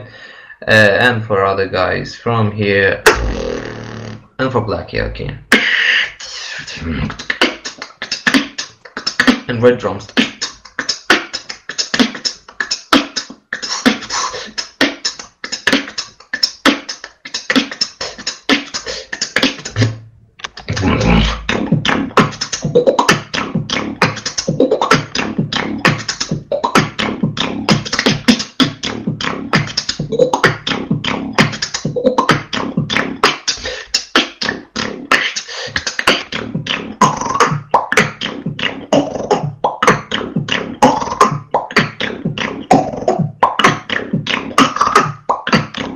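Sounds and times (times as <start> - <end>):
person beatboxing: 3.0 - 4.3, 5.0 - 45.9.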